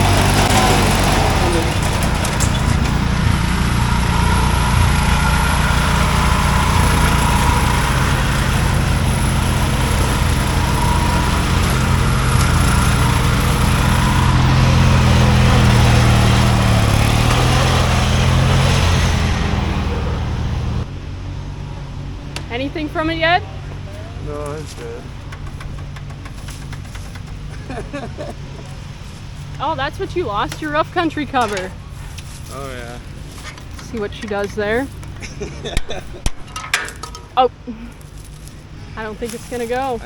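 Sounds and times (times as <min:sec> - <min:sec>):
riding lawn mower engine: 0:00.0 - 0:40.0.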